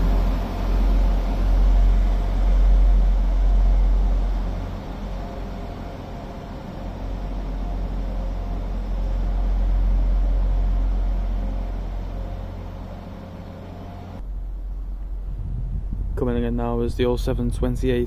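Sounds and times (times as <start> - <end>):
faint hum: 0.0 - 17.5
train rumbling: 0.0 - 18.0.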